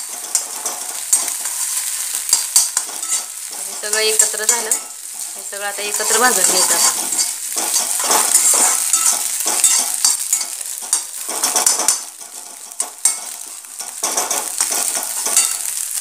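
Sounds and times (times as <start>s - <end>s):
steel spatula scraping and tapping pan: 0.0s - 16.0s
vegetables and egg sizzling in oil: 0.0s - 16.0s.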